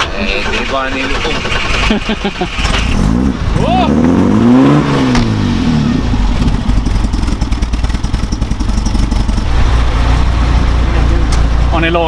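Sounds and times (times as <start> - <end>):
petrol engine revving and idling: 0.0 - 12.0.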